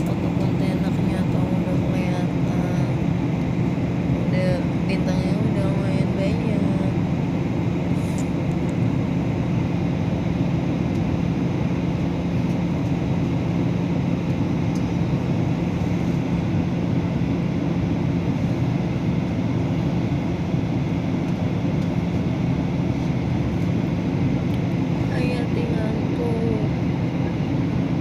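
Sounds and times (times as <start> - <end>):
airliner cabin drone: 0.0 - 28.0.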